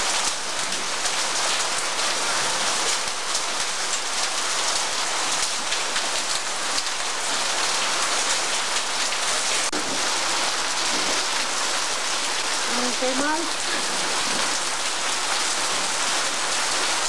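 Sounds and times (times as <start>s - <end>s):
rain on wet concrete: 0.0s - 17.0s.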